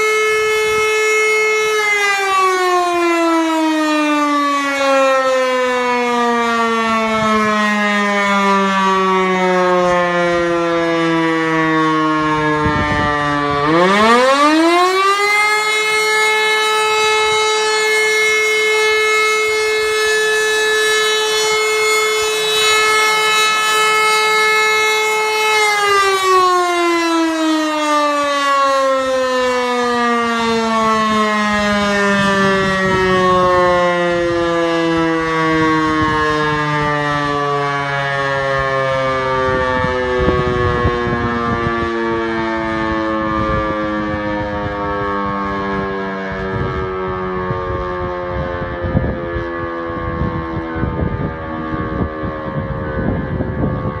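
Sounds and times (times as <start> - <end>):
wailing siren: 0.0 - 54.0.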